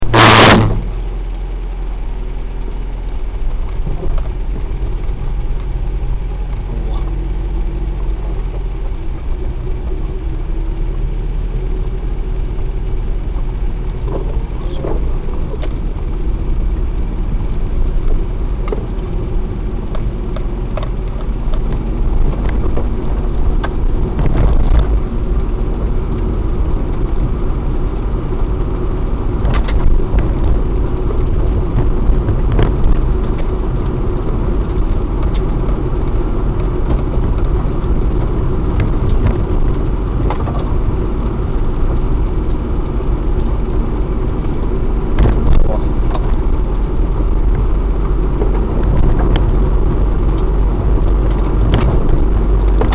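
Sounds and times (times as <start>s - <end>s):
car engine and road rumble: 0.0s - 52.9s.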